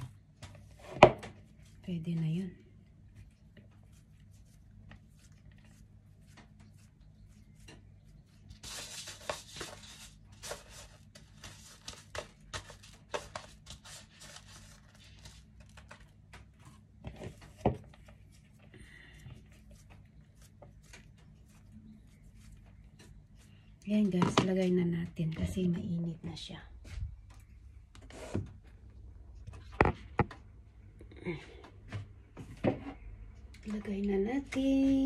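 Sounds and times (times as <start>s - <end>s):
hands mixing sticky dough: 0.0s - 35.0s
low steady hum: 0.0s - 35.0s.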